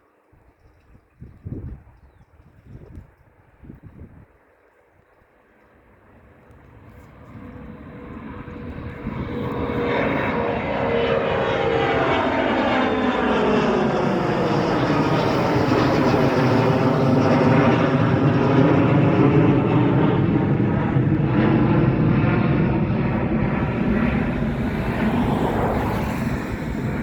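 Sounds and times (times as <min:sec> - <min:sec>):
jet airliner flying past: 0:05.4 - 0:27.0.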